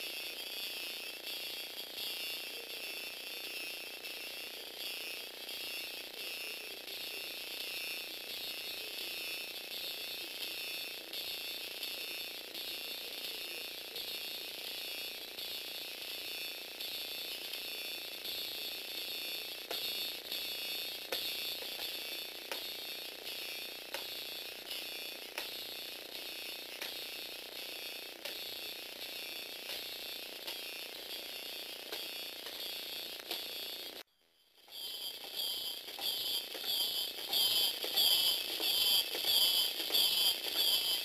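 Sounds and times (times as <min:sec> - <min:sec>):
small electric motor whining: 0:00.0 - 0:41.0.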